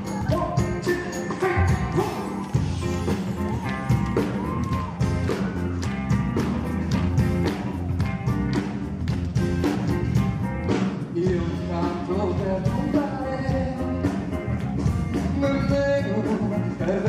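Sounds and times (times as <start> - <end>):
pop-rock music with drum beat: 0.0 - 17.0.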